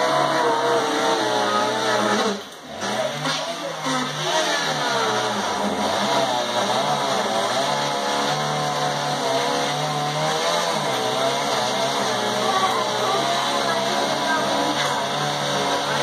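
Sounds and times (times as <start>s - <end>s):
chainsaw cutting under load: 0.0s - 16.0s.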